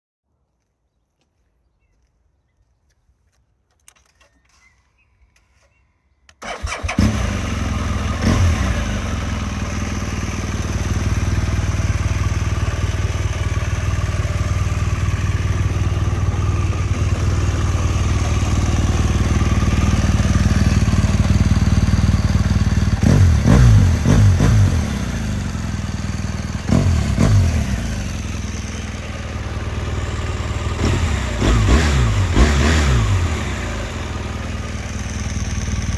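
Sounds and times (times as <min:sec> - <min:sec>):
motorcycle engine idling: 0:06.4 - 0:35.9.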